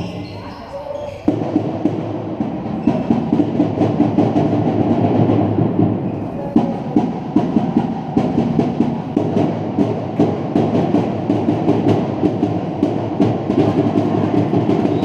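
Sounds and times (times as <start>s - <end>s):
echoing sports hall rumble: 0.0s - 15.0s.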